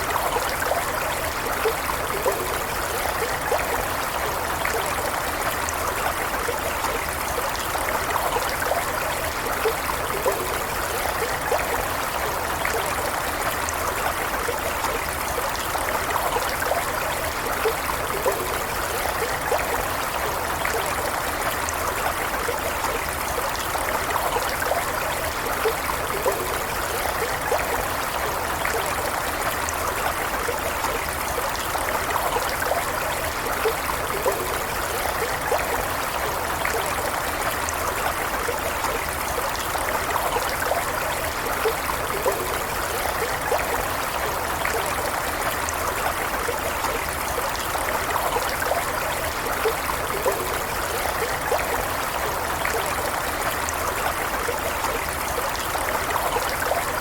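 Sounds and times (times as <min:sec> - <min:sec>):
small stream rushing: 0:00.0 - 0:57.0
water trickling and splashing: 0:00.0 - 0:57.0.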